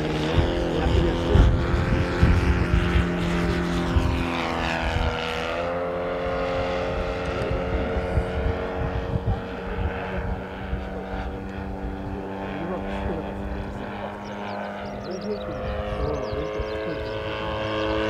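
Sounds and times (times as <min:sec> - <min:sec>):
model plane engine running: 0:00.0 - 0:18.0.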